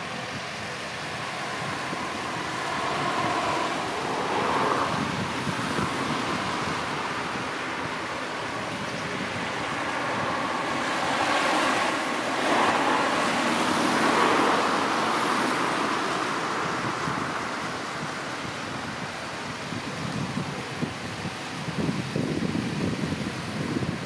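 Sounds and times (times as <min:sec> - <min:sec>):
tractor and mower whirring: 0:00.0 - 0:23.9.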